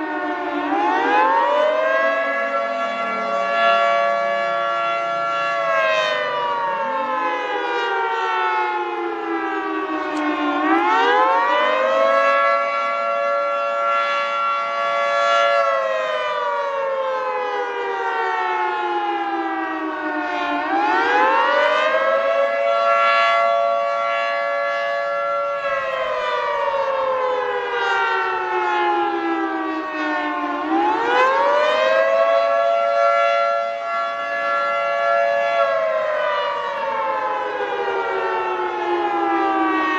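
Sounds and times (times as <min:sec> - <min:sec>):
two-tone warning siren wailing: 0:00.0 - 0:39.9.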